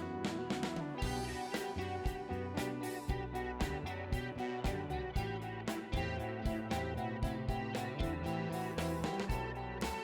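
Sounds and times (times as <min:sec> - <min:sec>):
guitar-led instrumental music: 0:00.0 - 0:10.0.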